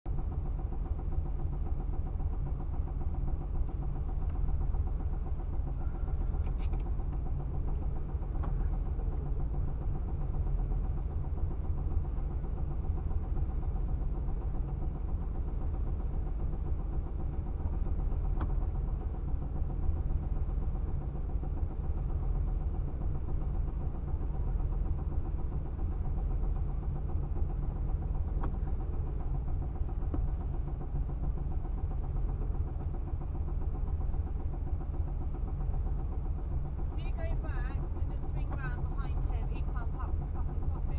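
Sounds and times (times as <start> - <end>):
car engine idling: 0.1 - 40.9
engine valvetrain ticking and banging: 0.1 - 40.9.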